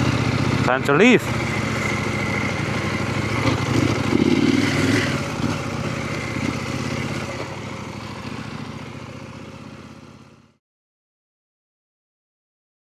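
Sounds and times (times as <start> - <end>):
motorcycle engine: 0.0 - 10.6.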